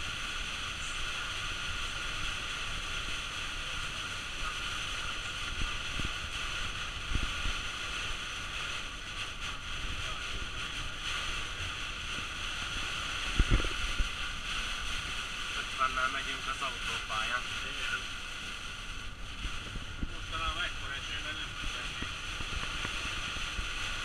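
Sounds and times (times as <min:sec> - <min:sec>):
heavy rain on windscreen and roof: 0:00.0 - 0:24.0
road noise: 0:00.0 - 0:24.0.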